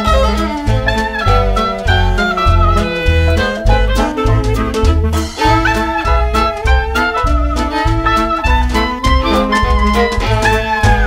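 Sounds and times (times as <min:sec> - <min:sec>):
swing jazz background music: 0:00.0 - 0:11.0.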